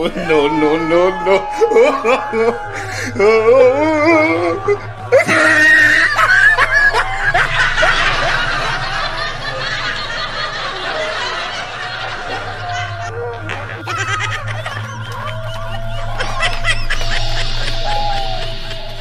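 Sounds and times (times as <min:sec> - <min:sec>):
high-pitched cackling laughter: 0:00.0 - 0:19.0
jumble of voices: 0:00.0 - 0:19.0
sharp cry: 0:00.0 - 0:19.0.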